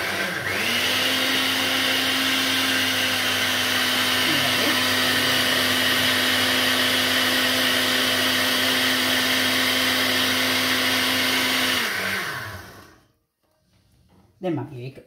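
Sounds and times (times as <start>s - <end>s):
blender motor winding down: 0.0s - 13.1s
blender running: 0.0s - 13.1s.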